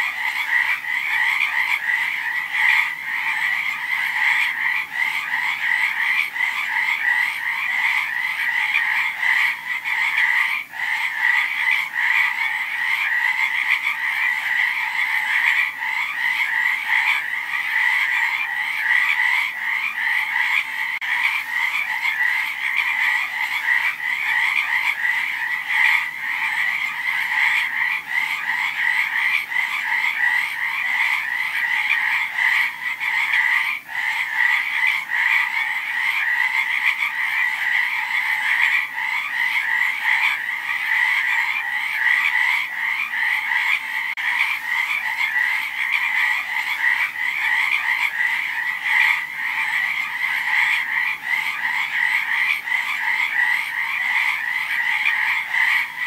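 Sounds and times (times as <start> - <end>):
chorus of frogs croaking: 0.0 - 56.0.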